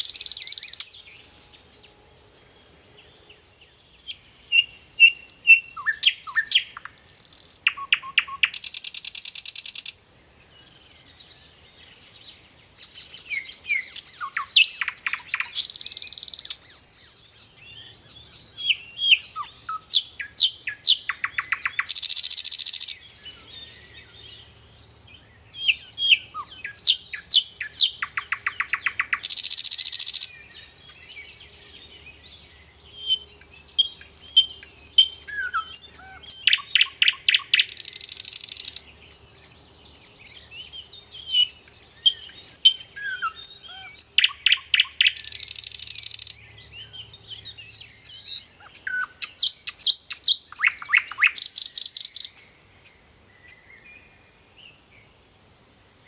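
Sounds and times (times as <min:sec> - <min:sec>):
nightingale singing: 0:00.0 - 0:55.2.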